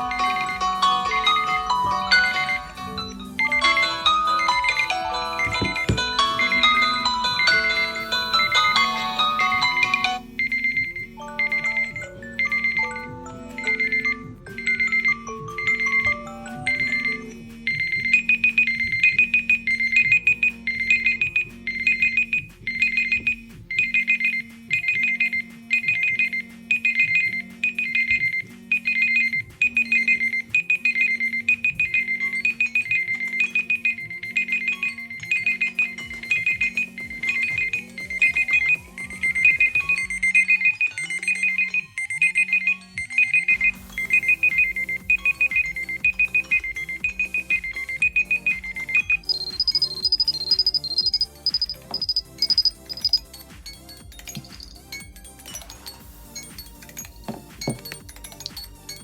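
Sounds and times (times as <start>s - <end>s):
high electronic beeps: 0.0s - 59.0s
higher beep pattern: 0.0s - 59.0s
low ringtone melody: 0.0s - 59.0s.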